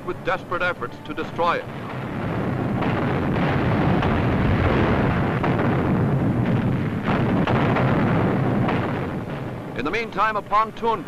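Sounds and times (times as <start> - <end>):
artillery shells exploding: 0.5 - 11.0.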